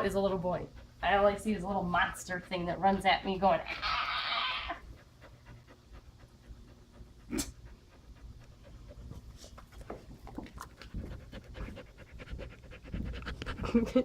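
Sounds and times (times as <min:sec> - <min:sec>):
dog panting: 0:00.0 - 0:03.7, 0:04.8 - 0:14.0.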